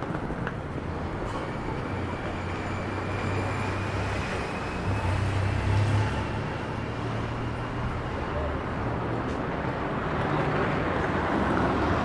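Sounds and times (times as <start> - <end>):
faint voices of passers-by: 0.0 - 12.0
road traffic rumble: 0.0 - 12.0.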